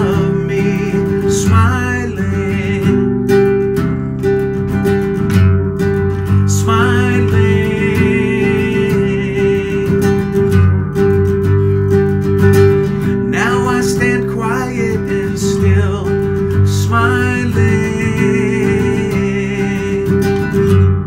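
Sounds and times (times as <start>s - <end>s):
man singing: 0.0s - 4.4s, 6.1s - 10.6s, 12.9s - 21.0s
acoustic guitar strumming chords: 0.0s - 21.0s.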